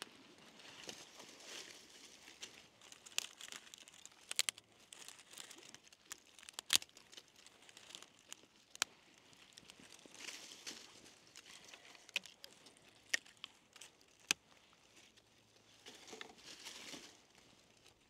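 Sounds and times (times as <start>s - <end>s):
crinkly material crumpling: 0.0s - 18.0s.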